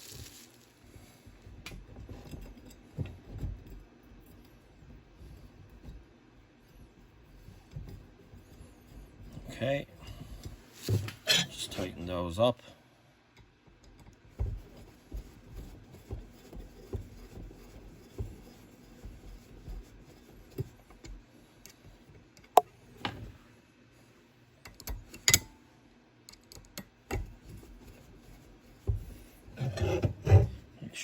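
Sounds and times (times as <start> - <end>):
light scraping and handling: 0.0 - 12.2, 14.3 - 23.4, 27.2 - 30.8.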